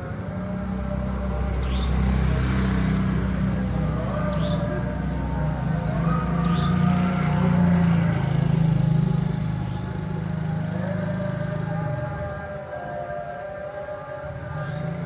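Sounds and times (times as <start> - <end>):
passing vehicle engine rumble: 0.0 - 15.0.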